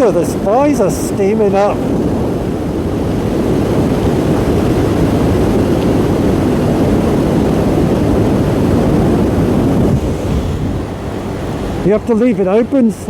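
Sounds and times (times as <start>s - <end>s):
wind rush on microphone: 0.0s - 13.0s
motorbike engine running: 0.2s - 13.0s.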